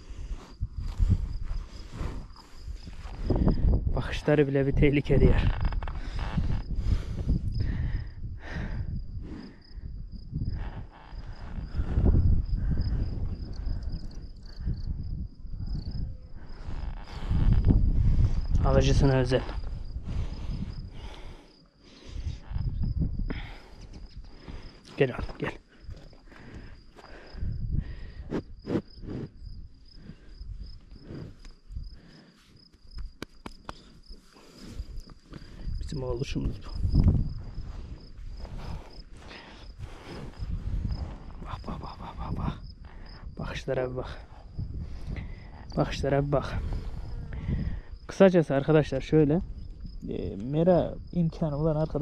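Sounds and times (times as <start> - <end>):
low rumbling noise in gusts: 0.0 - 32.3, 33.8 - 52.0
crickets chirring: 0.0 - 52.0
insects trilling: 0.0 - 52.0.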